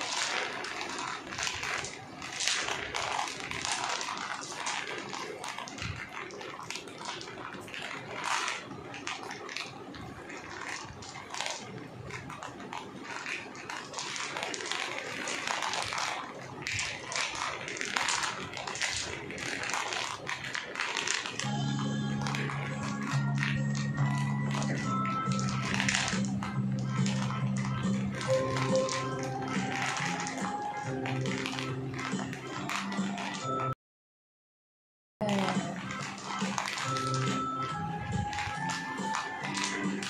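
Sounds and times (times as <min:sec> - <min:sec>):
plastic beads rolling and clicking: 0:00.0 - 0:33.8, 0:35.2 - 0:40.0.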